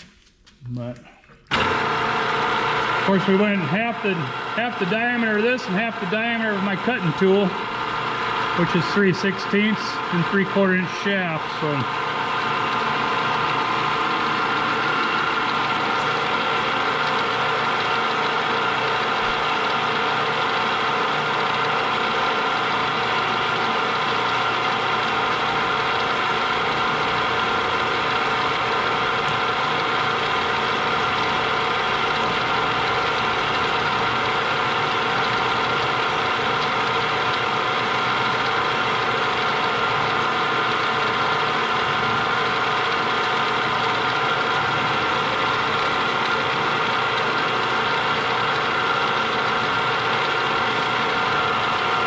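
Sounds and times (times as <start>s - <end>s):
milling machine whine: 1.4s - 52.0s.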